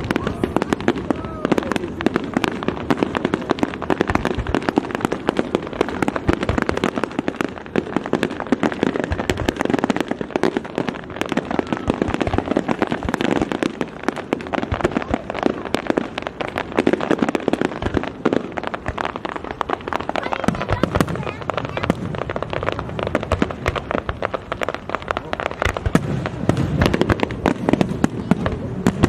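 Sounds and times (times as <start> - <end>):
fireworks crackling pops: 0.0 - 29.0
low firework bangs: 0.0 - 29.0.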